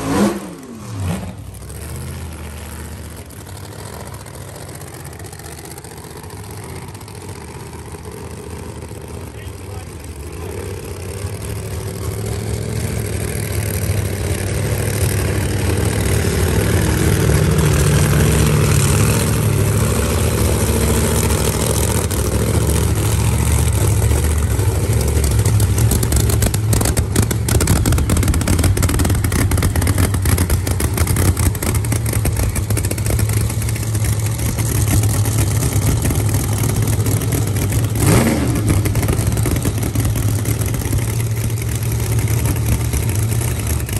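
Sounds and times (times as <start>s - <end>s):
drag car engine rumbling: 0.0s - 43.9s
engine revving: 0.0s - 43.9s.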